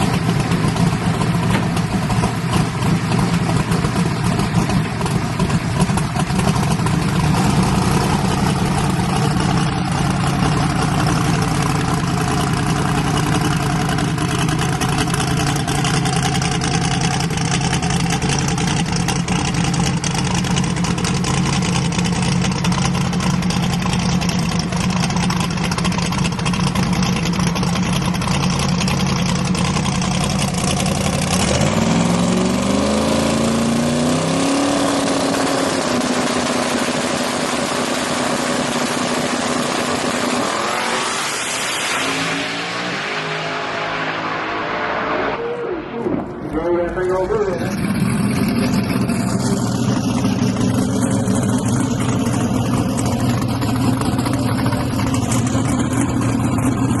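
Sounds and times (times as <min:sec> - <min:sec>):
race car engine idling and revving: 0:00.0 - 0:57.0.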